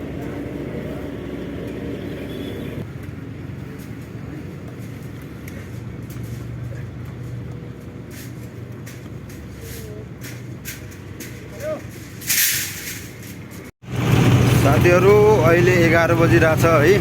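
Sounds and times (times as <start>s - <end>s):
truck diesel engine running: 0.0s - 12.3s, 13.4s - 17.0s.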